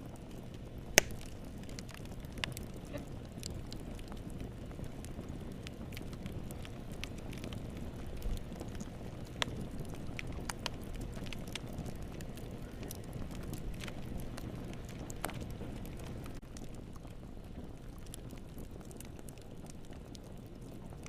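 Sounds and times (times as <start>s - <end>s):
fire crackling and popping: 0.0s - 21.0s
fire rumbling: 0.0s - 21.0s.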